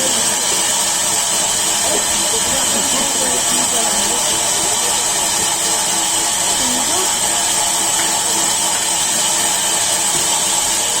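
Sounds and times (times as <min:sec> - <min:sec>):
sawmill machinery whining: 0:00.0 - 0:11.0.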